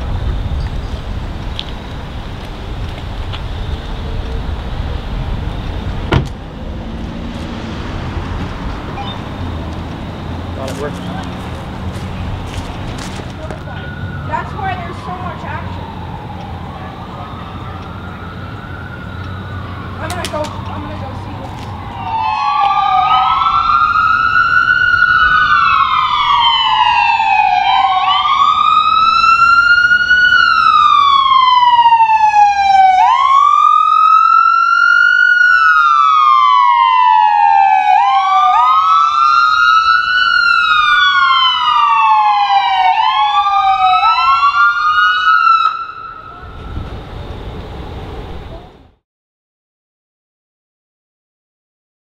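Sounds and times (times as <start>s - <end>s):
emergency vehicle sirens wailing: 0.0s - 49.0s.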